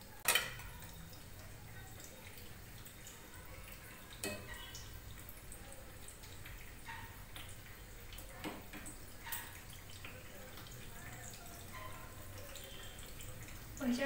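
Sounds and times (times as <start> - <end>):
oil popping and crackling: 0.0 - 14.0
potato slices sizzling in oil: 0.0 - 14.0.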